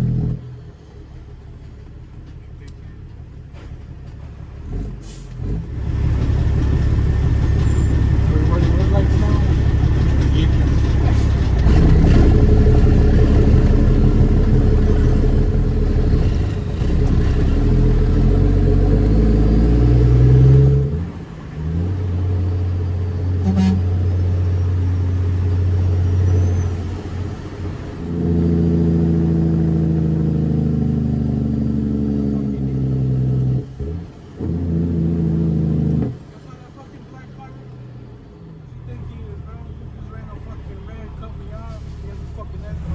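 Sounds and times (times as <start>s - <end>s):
diesel truck engine droning: 0.0s - 42.9s.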